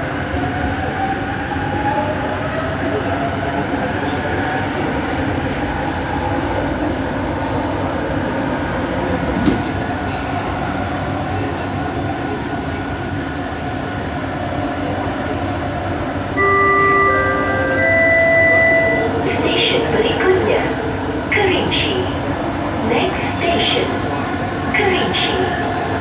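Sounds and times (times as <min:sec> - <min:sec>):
metro train rumble from inside: 0:00.0 - 0:26.0.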